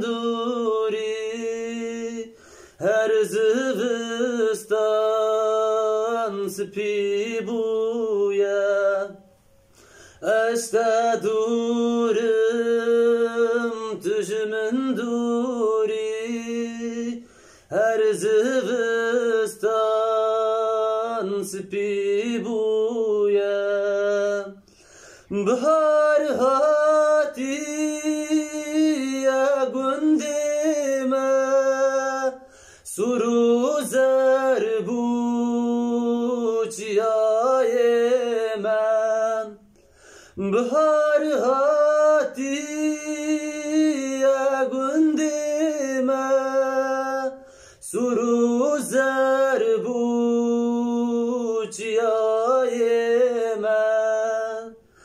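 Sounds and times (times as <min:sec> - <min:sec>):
man singing unaccompanied: 0:00.0 - 0:55.0.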